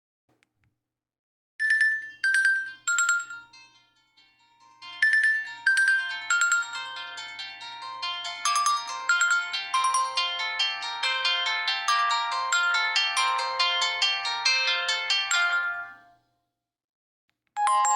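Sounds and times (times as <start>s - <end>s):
phone ringtone melody: 1.6s - 16.2s, 17.6s - 17.9s.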